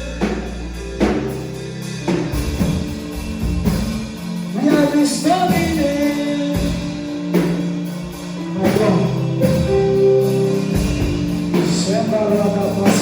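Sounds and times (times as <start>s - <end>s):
live worship band music: 0.0s - 13.0s.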